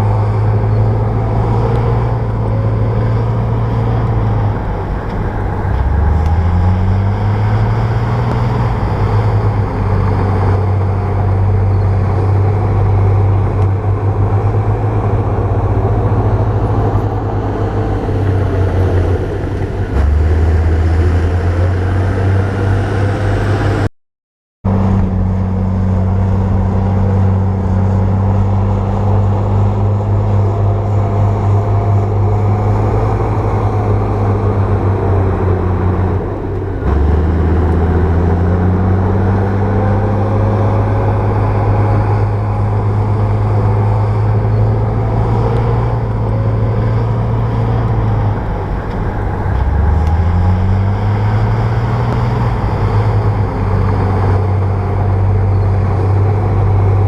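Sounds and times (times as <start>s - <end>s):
bulldozer diesel engine running: 0.0s - 23.9s, 24.7s - 57.0s.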